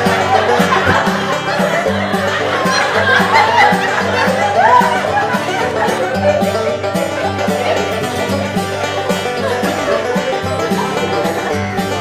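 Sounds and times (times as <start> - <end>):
plucked-string tune: 0.0 - 12.0
rhythmic bass line: 0.0 - 12.0.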